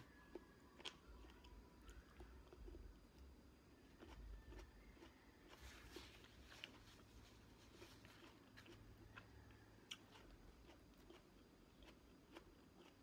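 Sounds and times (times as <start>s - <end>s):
chewing fruit with wet mouth clicks: 0.0s - 13.0s.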